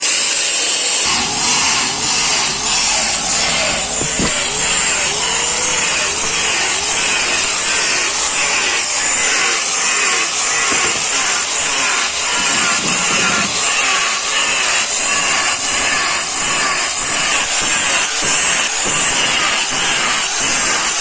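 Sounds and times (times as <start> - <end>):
angle grinder grinding steel: 0.0 - 21.0.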